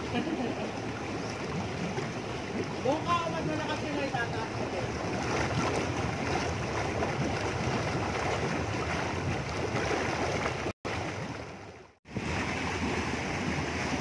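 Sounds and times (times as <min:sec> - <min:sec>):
jacuzzi jets churning water: 0:00.0 - 0:14.0.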